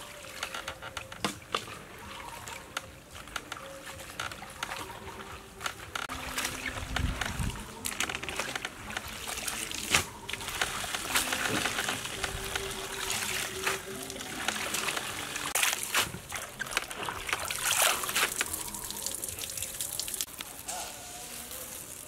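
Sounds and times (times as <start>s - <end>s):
water splashing in metal basin: 0.0s - 20.7s.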